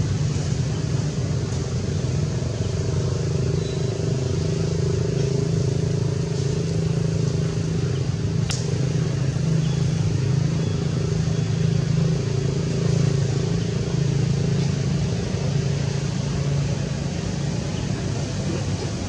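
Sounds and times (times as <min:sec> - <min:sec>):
motor engine running: 0:00.0 - 0:19.0.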